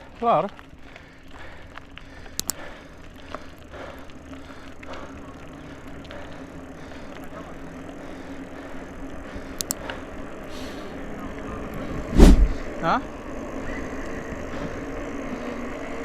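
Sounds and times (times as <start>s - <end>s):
bike clicks and rattles: 0.0s - 16.0s
bike tyres rumbling on dirt: 0.0s - 16.0s.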